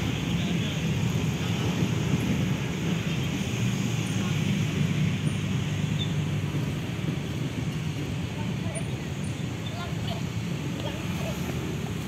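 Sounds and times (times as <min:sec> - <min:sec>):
diesel train rumbling on rails: 0:00.0 - 0:12.0.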